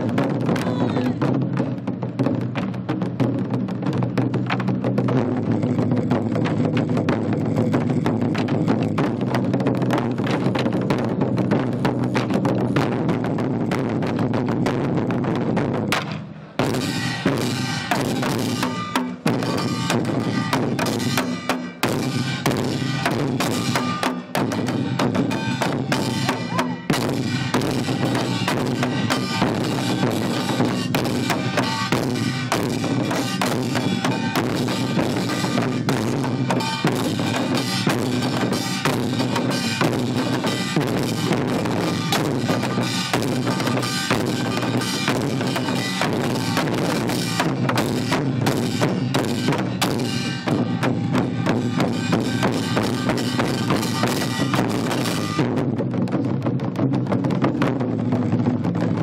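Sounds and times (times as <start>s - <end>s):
barrel drums beaten fast: 0.0s - 59.0s.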